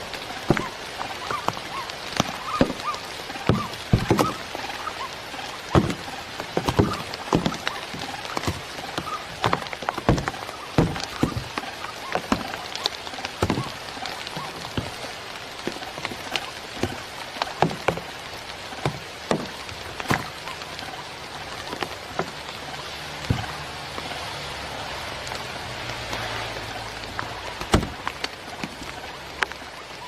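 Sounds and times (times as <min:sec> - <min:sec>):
sharp taps and knocks: 0:00.4 - 0:24.1, 0:27.1 - 0:29.0.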